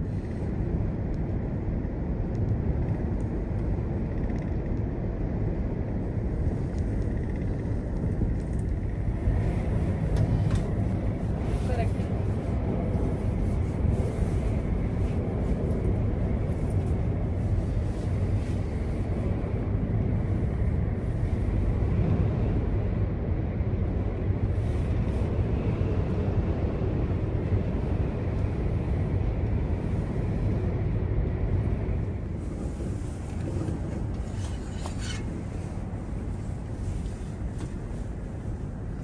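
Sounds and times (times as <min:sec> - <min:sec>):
cable car low rumble: 0:00.0 - 0:39.0.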